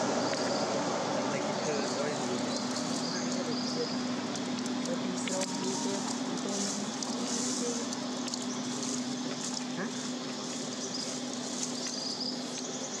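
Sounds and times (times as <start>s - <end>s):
even hiss: 0.0s - 12.9s
constant low hum: 0.0s - 13.0s.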